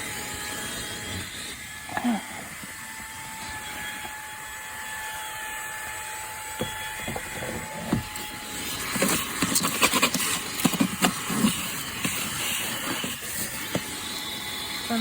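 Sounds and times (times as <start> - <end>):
handheld vacuum running: 0.0 - 15.0.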